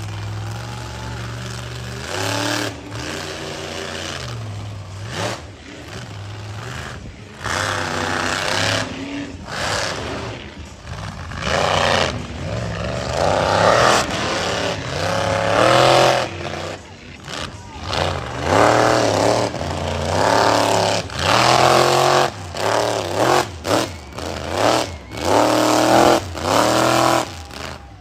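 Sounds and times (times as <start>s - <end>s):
truck engine revving: 0.0s - 28.0s.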